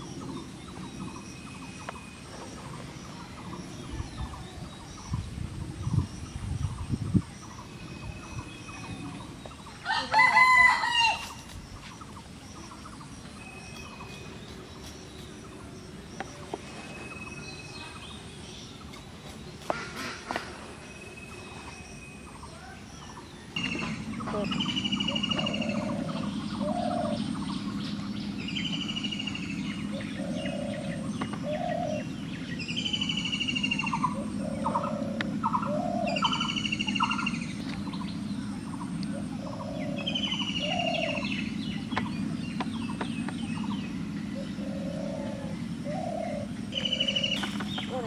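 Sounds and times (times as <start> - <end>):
birds singing with high trill: 0.0 - 48.0
steady low hum: 0.0 - 48.0.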